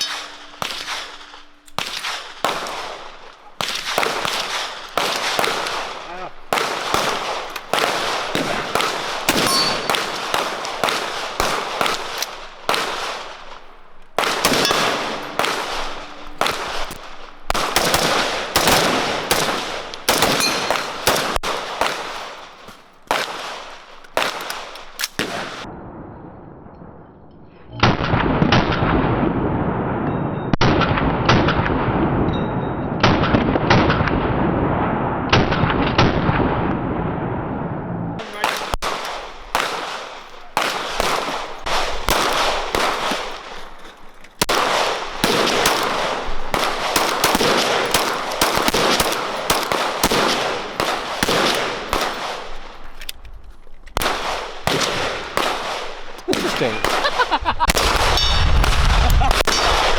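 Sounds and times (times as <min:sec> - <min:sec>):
gunshots: 0:00.0 - 0:25.7, 0:32.9 - 0:37.6, 0:38.2 - 0:53.2, 0:54.0 - 0:59.9.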